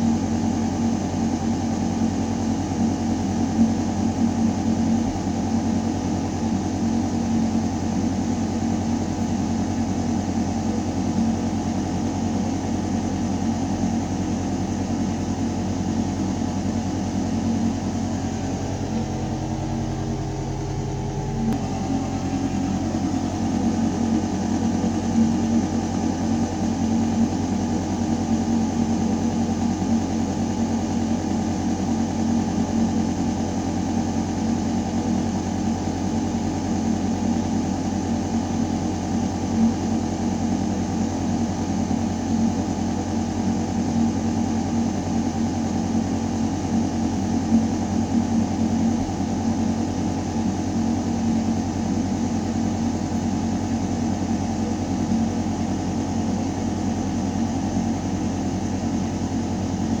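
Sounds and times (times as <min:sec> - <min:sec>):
ventilation system humming: 0:00.0 - 1:00.0.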